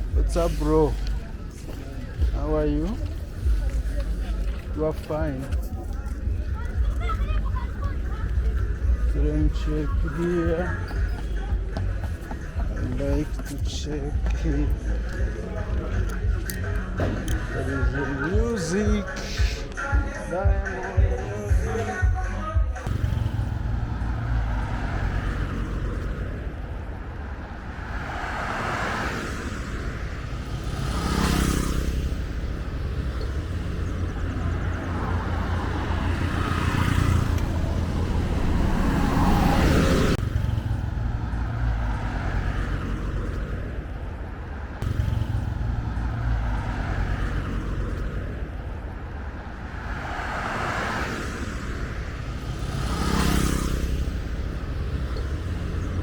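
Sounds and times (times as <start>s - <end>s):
low traffic rumble: 0.0s - 56.0s
vehicles passing: 0.0s - 56.0s.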